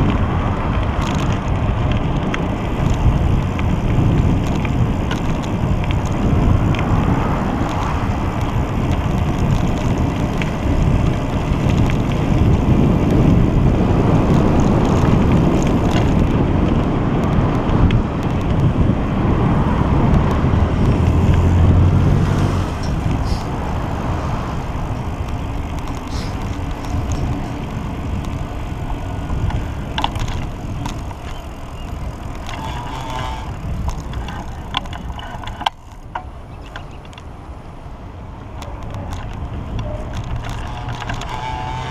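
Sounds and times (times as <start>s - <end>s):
bike clicks and rattles: 0.0s - 41.9s
motor vehicle engine rumble passing: 0.0s - 41.9s
road and wind noise: 0.0s - 41.9s.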